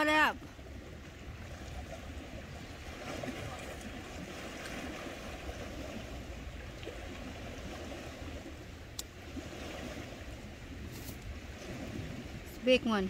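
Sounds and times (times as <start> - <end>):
waves on a rocky shore: 0.0 - 13.0
wind rumble on microphone: 0.0 - 13.0.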